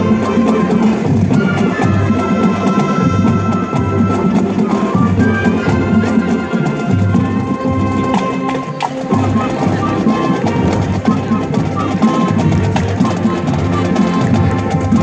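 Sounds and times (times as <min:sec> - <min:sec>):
brass and woodwinds: 0:00.0 - 0:15.0
marching drum beat: 0:00.0 - 0:15.0.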